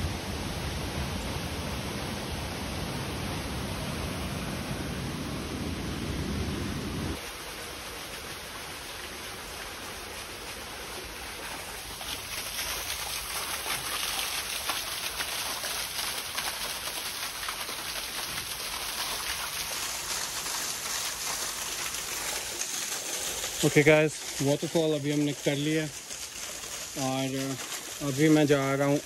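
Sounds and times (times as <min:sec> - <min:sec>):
waterfall: 0:00.0 - 0:29.0.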